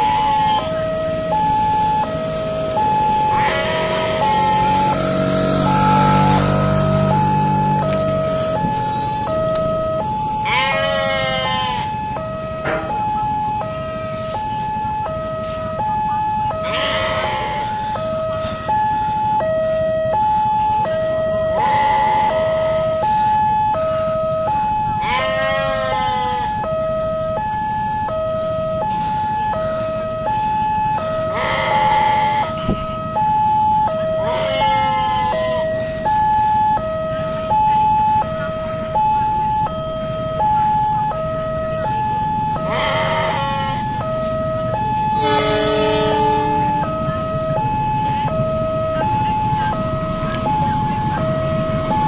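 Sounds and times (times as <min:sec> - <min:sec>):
level crossing two-tone alarm: 0:00.0 - 0:52.0
wavering siren-like call: 0:00.0 - 0:52.0.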